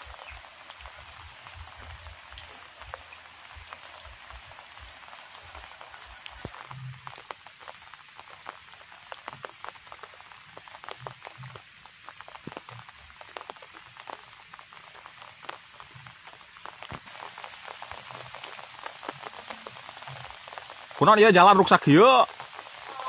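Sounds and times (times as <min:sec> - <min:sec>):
rain falling: 0:00.0 - 0:23.0
raindrop hits: 0:00.0 - 0:23.0.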